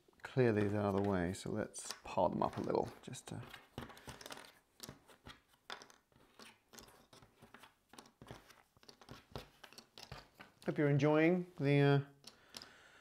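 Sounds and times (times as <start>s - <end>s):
puzzle pieces clicking and scraping: 0.5s - 10.8s, 12.2s - 12.8s.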